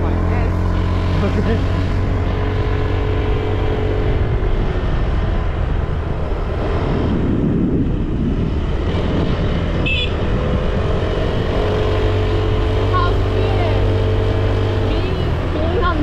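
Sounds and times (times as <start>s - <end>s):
wind noise on microphone: 1.8s - 16.0s.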